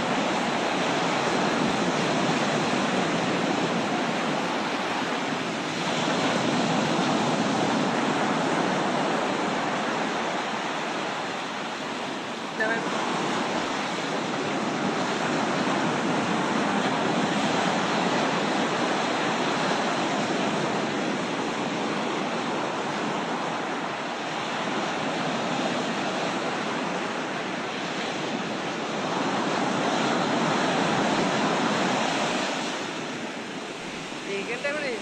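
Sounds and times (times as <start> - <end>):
floodwater rushing: 0.0 - 35.0.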